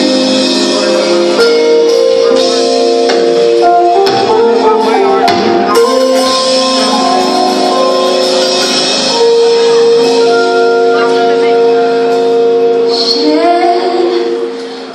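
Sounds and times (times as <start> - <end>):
worship band playing chords: 0.0 - 14.9.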